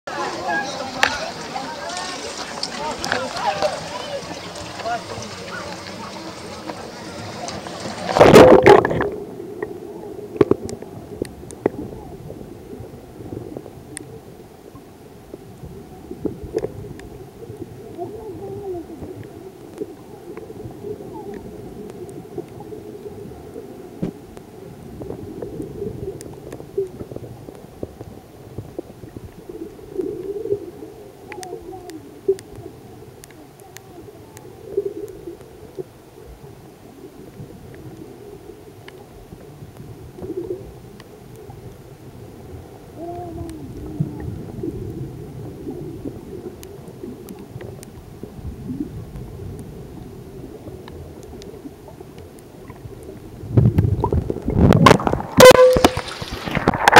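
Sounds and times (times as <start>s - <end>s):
underwater rumble of moving water: 0.1s - 56.9s.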